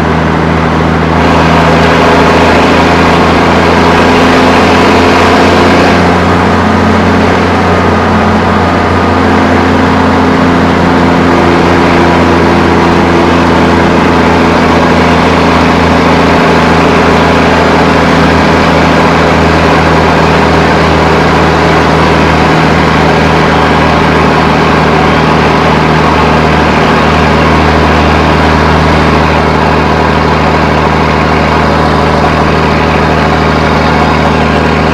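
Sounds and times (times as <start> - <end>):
truck engine running inside cab: 0.0 - 34.9.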